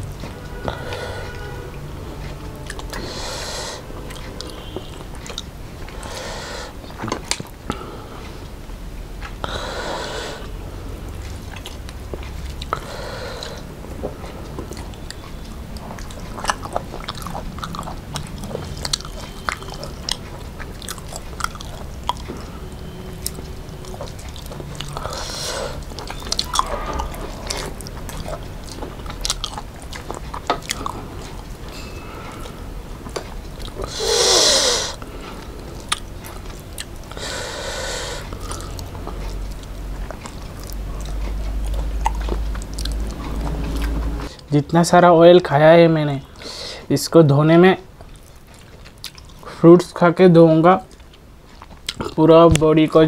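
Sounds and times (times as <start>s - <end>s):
people chewing and biting: 0.0s - 44.9s, 47.8s - 53.0s.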